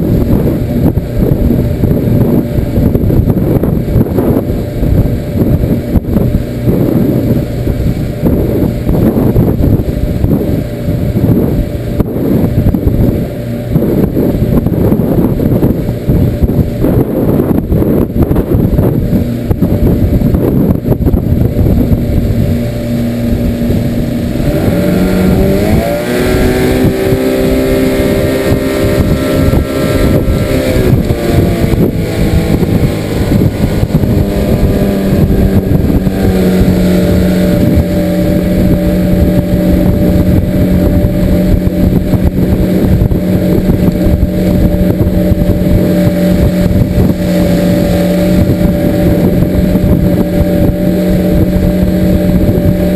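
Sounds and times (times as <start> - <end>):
outboard motor: 0.0 - 52.9
wind and water rushing: 0.0 - 52.9.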